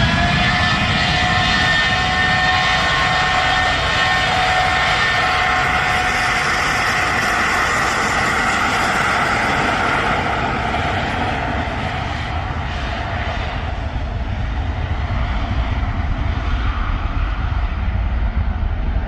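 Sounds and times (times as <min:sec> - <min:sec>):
jet airliner passing by: 0:00.0 - 0:19.0.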